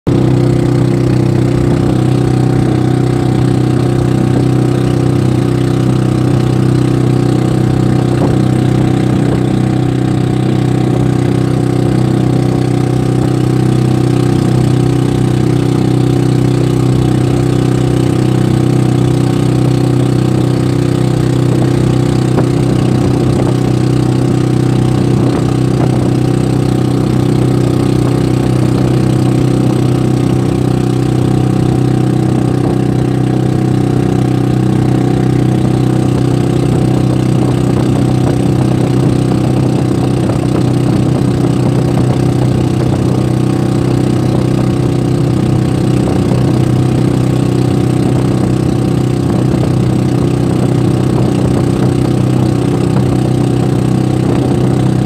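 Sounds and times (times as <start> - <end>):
boat engine drone: 0.1 - 55.0.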